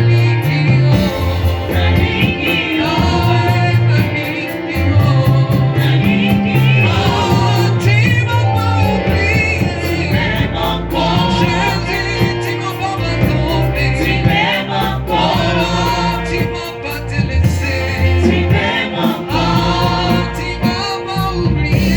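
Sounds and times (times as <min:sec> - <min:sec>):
band with moving bass line: 0:00.0 - 0:21.9
gospel singing voices: 0:00.0 - 0:21.9.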